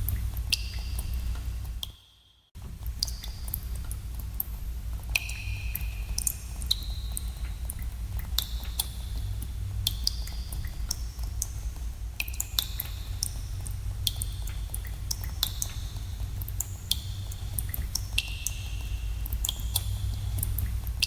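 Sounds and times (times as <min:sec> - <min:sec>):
steady low rumble: 0:00.0 - 0:01.8, 0:02.6 - 0:21.0
water drops plinking in cave: 0:00.0 - 0:21.0.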